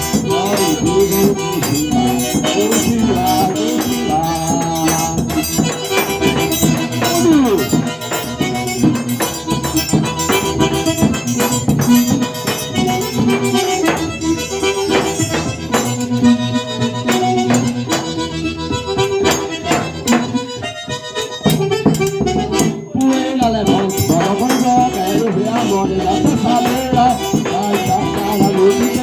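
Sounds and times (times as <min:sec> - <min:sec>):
button accordion melody: 0:00.0 - 0:29.0
percussion beat: 0:00.0 - 0:29.0.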